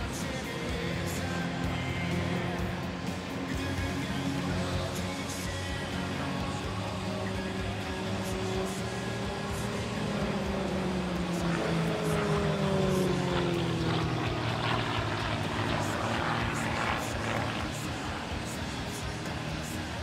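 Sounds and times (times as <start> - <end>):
propeller plane engine overhead: 0.0 - 20.0.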